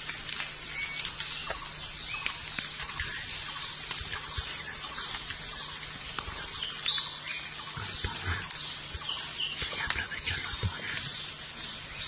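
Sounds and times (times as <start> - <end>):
birds chirping: 0.0 - 12.0
forest ambience hiss: 0.0 - 12.0.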